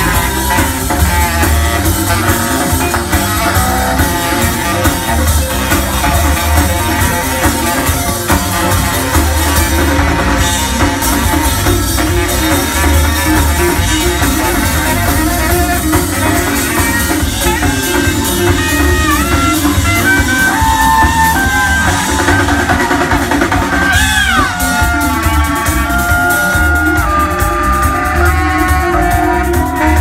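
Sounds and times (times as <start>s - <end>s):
bass guitar: 0.0s - 30.0s
drum kit: 0.0s - 30.0s
saxophone: 0.0s - 30.0s.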